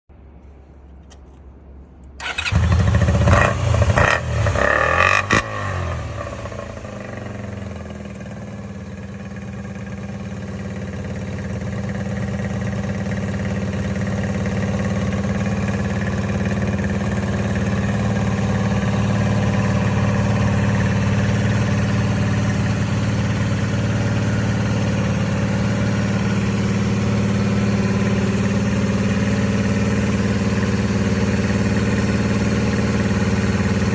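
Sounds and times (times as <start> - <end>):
motorcycle engine revving and idling: 2.2 - 33.9.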